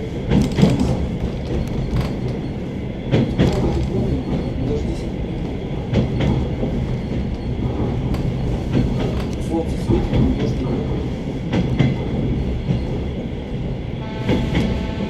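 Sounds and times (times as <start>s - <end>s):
train wheels clacking over rail joints: 0.0s - 13.2s
train rumble: 0.0s - 15.0s.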